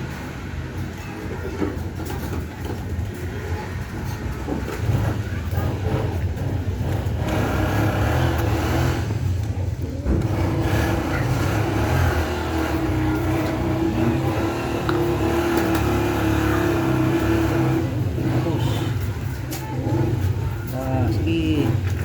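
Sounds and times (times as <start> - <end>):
vehicle engine running: 2.9 - 22.0.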